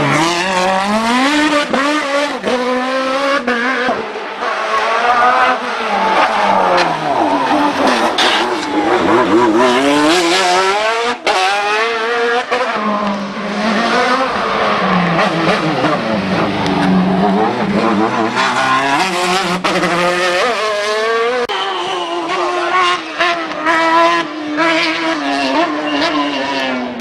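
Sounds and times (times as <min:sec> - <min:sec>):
racing car engine accelerating: 0:00.0 - 0:27.0.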